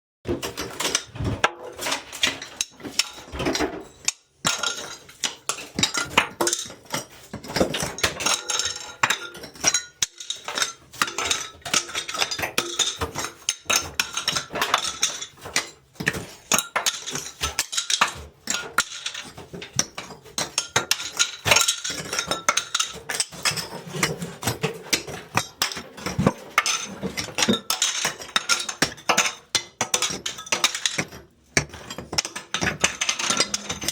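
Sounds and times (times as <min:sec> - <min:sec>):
brittle material clattering and breaking: 0:00.3 - 0:33.9.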